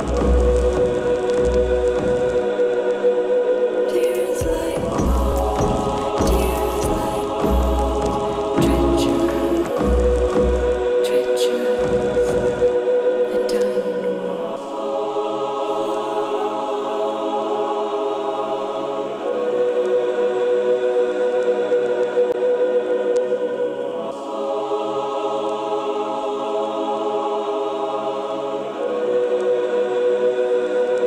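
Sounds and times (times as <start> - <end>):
slow choral chords: 0.0 - 31.0.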